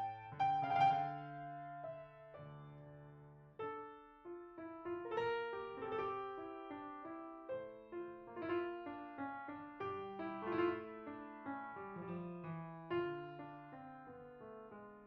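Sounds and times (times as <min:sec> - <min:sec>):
grand piano playing: 0:00.0 - 0:14.8.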